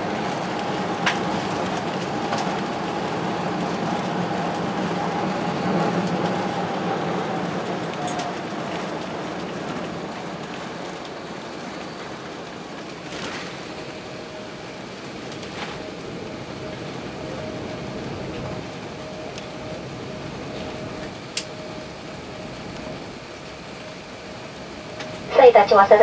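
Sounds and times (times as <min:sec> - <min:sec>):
aircraft cabin engine hiss: 0:00.0 - 0:26.0.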